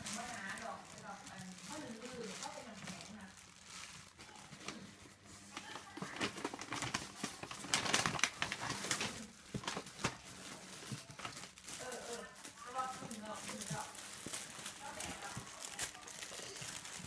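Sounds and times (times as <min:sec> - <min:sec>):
paper bag rustling: 0:00.0 - 0:17.0.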